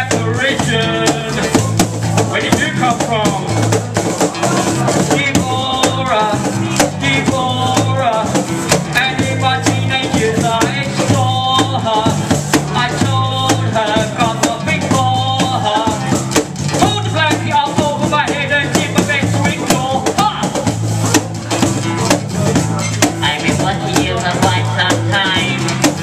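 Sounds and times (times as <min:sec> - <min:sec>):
bass guitar low notes: 0:00.0 - 0:26.0
strummed acoustic guitar: 0:00.0 - 0:26.0.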